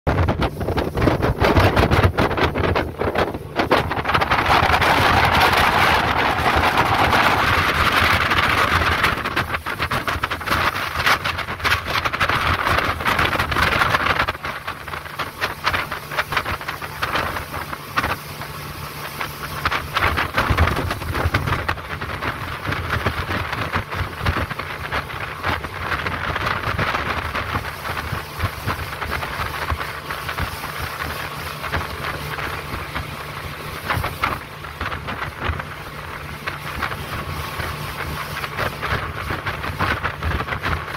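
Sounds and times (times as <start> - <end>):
speedboat engine hum: 0.1 - 40.9
water rushing past: 0.1 - 40.9
wind buffeting microphone: 0.1 - 40.9.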